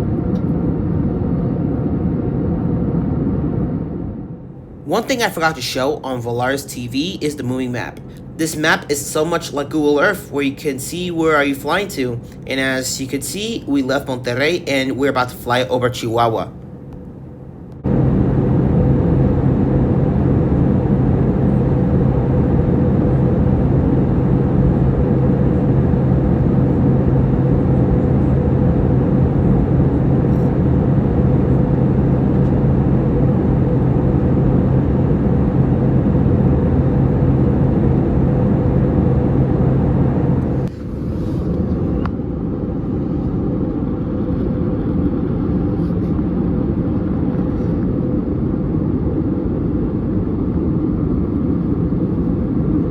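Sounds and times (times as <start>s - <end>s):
airplane cabin engine and airflow rush: 0.0s - 52.9s
low steady hum: 0.0s - 52.9s.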